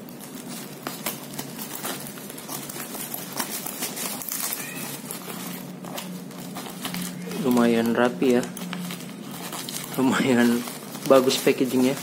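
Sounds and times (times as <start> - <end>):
scissors snipping plastic: 0.0 - 12.0.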